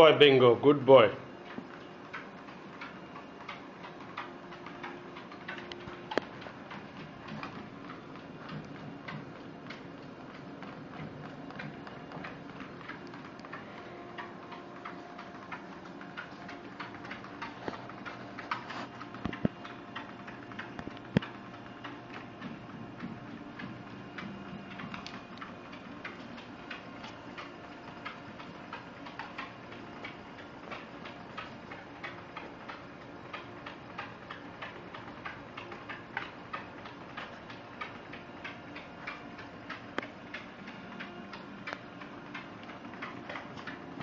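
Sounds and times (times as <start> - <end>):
dog paws ticking on treadmill: 0.0 - 44.0
treadmill motor hum: 0.0 - 44.0.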